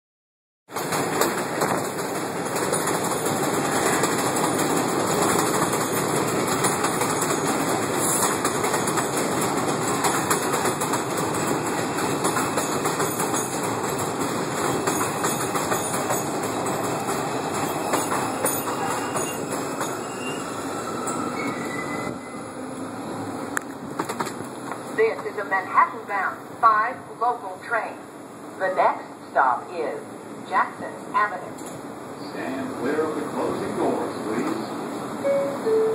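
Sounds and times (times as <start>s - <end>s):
train wheels rumbling on rails: 0.7s - 26.0s, 31.4s - 35.7s.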